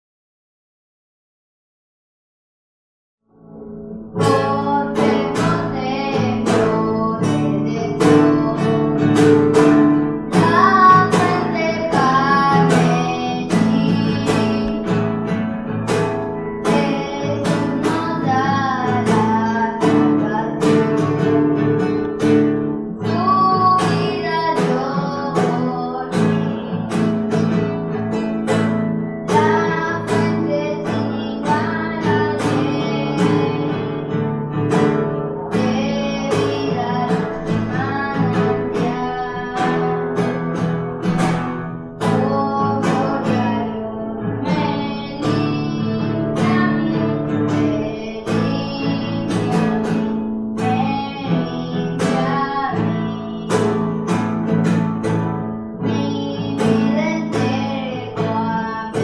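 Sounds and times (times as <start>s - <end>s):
strummed acoustic guitar: 3.5s - 59.0s
boy singing a hymn: 4.2s - 55.2s, 55.8s - 59.0s.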